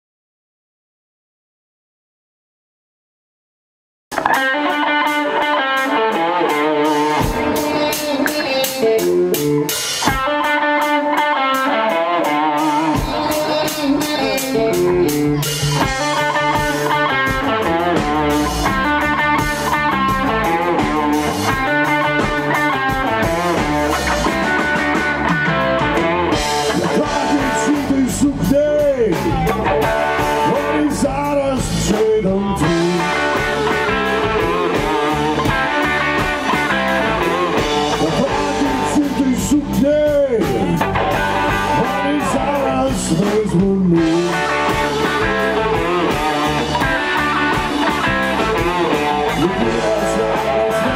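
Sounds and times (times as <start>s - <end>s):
bass guitar: 4.1s - 50.9s
drums: 4.1s - 50.9s
electric guitars: 4.1s - 50.9s
blues harmonica: 4.2s - 50.9s.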